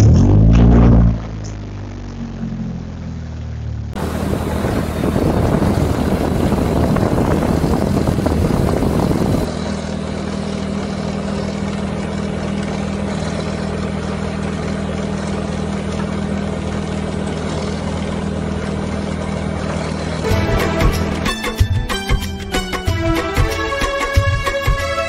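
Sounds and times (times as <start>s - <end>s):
light aircraft engine running: 1.3s - 25.0s.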